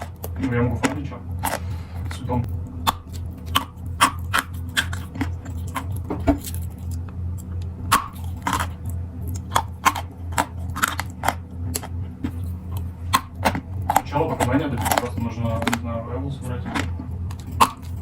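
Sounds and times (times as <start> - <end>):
brittle food crunching: 0.0 - 18.0
steady low hum: 0.0 - 18.0.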